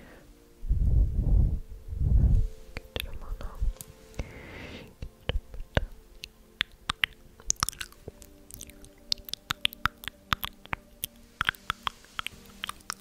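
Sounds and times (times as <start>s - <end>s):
faint low tones: 0.0s - 13.0s.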